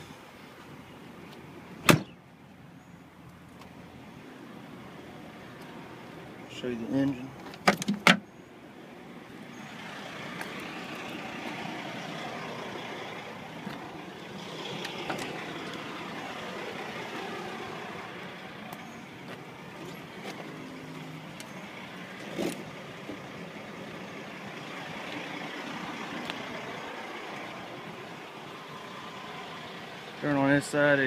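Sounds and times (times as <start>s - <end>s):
diesel trucks idling: 0.0s - 7.6s, 8.2s - 31.0s.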